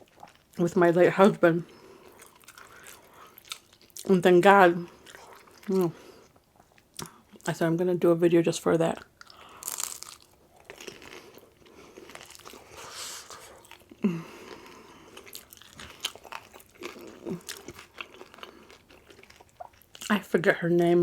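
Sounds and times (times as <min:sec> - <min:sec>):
chewing crunchy tacos: 0:00.0 - 0:00.6, 0:01.6 - 0:04.1, 0:04.8 - 0:07.5, 0:08.9 - 0:20.2.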